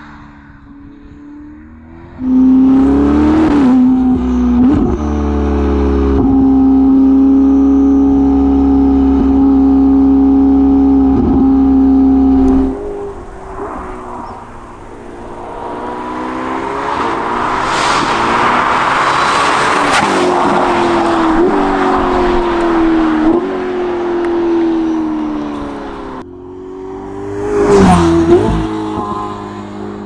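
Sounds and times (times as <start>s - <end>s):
sports car engine revving: 1.9s - 30.0s.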